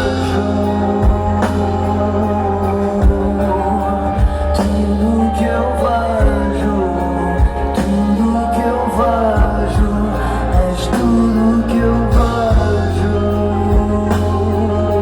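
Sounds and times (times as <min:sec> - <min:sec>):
person singing a melody: 0:00.0 - 0:15.0
steady bass: 0:00.0 - 0:15.0.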